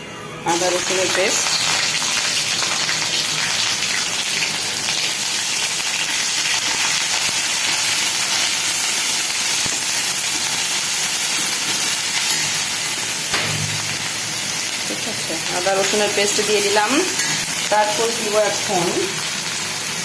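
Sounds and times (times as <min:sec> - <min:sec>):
paste sizzling in hot oil: 0:01.1 - 0:20.0.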